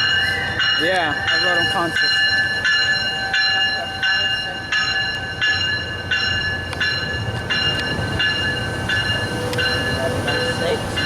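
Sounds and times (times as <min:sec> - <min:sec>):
diesel locomotive rumbling: 0:00.0 - 0:11.0
railroad bell ringing: 0:00.0 - 0:11.0.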